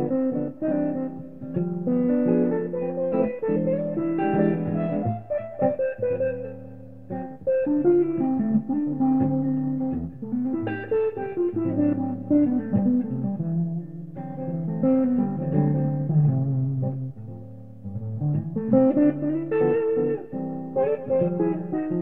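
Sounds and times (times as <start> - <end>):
electric guitar melody: 0.0 - 22.0.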